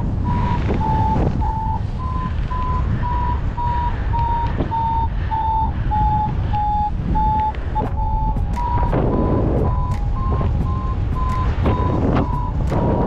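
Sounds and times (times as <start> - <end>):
variometer beeping: 0.0 - 13.0
wind rumble on microphone: 0.0 - 13.0.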